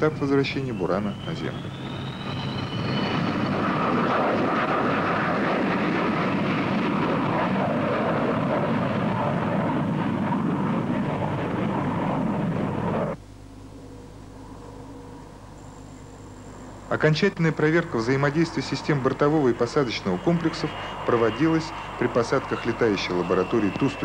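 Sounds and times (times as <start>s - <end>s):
jet engines roaring: 0.0s - 13.2s, 14.2s - 24.0s
high whine rising in pitch: 0.0s - 24.0s.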